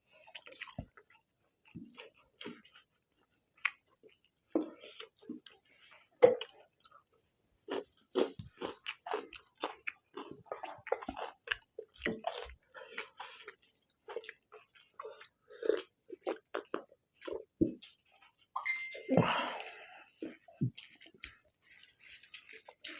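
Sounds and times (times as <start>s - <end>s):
people chewing: 0.0s - 22.9s.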